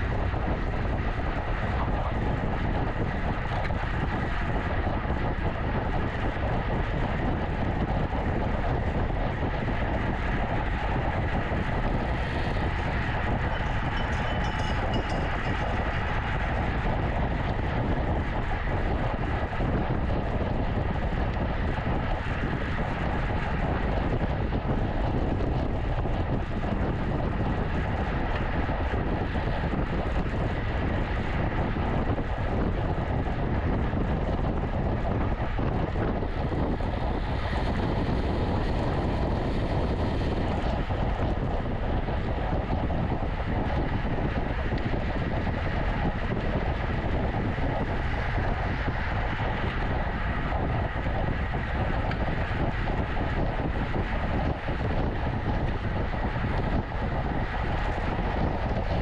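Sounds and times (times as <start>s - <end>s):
bicycle road noise: 0.0s - 59.0s
wind buffeting microphone: 0.0s - 59.0s.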